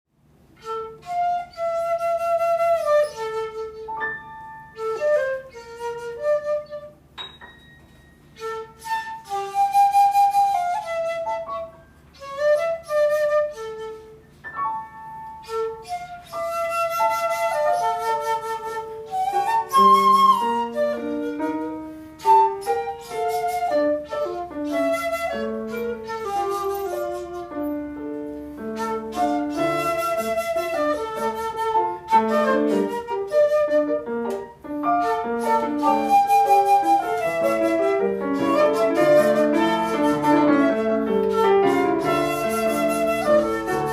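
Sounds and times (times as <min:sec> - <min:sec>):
piano accompaniment: 0:00.2 - 0:43.9
shakuhachi flute melody: 0:00.4 - 0:43.9.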